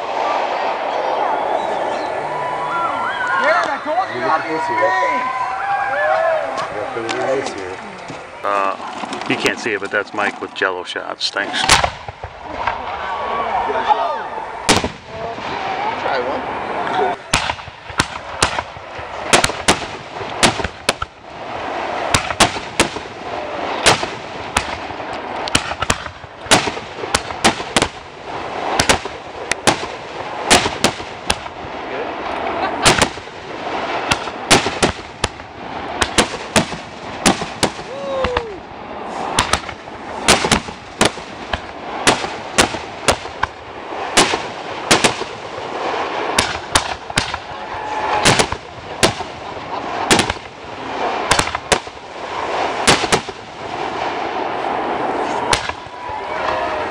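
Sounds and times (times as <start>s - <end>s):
fireworks bursting: 0.0s - 56.9s.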